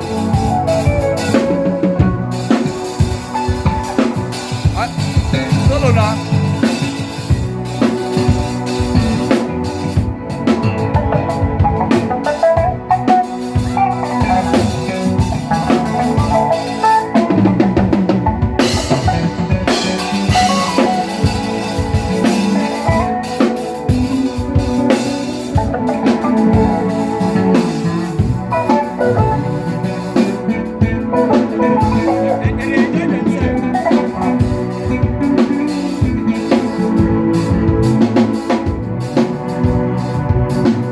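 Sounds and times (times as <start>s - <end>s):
drum kit hits: 0.0s - 36.2s
sustained pitched instruments: 0.0s - 40.9s.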